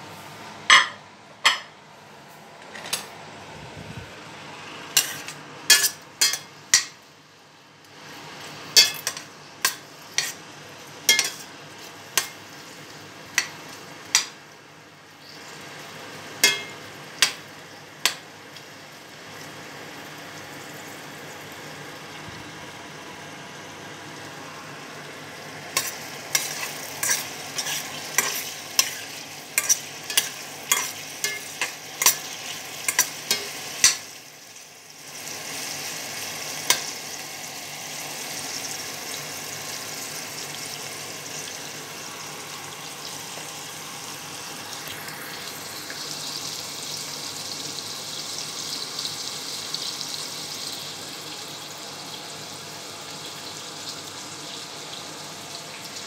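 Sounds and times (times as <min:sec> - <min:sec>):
onions sizzling in a pot: 0:04.2 - 0:56.0.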